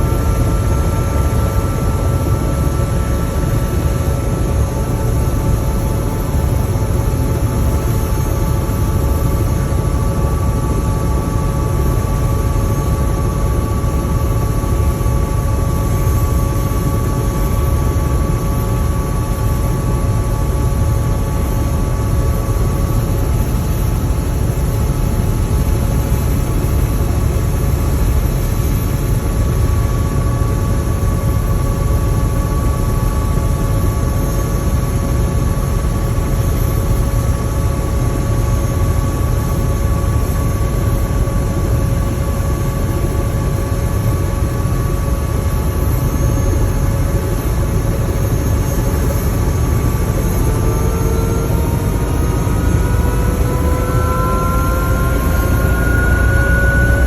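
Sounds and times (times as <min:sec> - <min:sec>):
helicopter engine whine: 0:00.0 - 0:57.0
helicopter rotor drone: 0:00.0 - 0:57.0.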